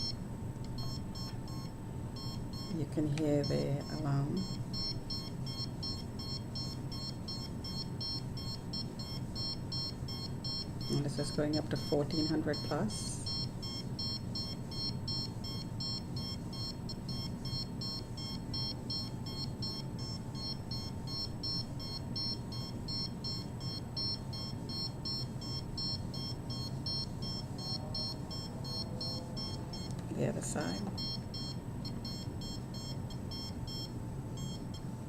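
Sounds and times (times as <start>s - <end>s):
meter alarm beeping: 0.0s - 35.0s.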